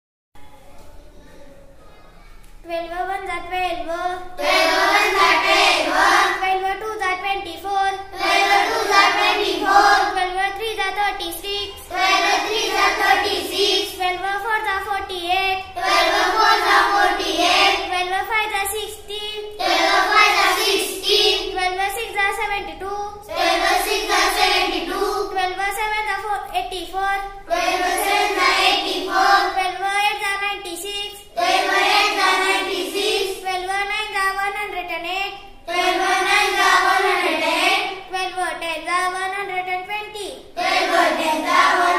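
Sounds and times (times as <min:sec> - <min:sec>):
girl chanting sing-song: 0:02.6 - 0:41.9.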